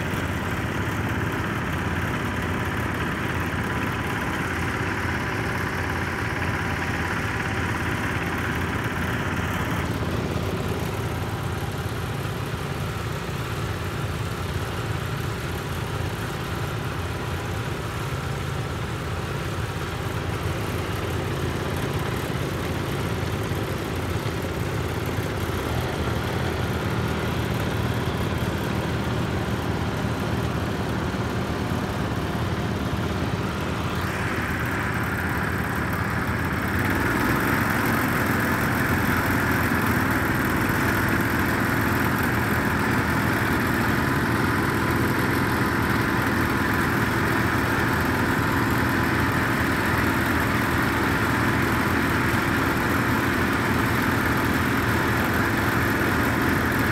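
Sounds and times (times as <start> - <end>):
garden tractor engines droning: 0.0 - 56.9.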